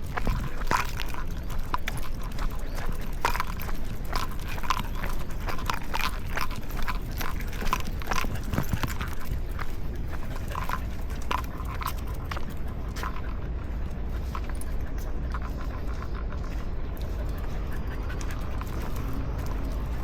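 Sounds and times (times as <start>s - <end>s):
footsteps and paws on pavement: 0.0s - 20.0s
low steady rumble: 0.0s - 20.0s.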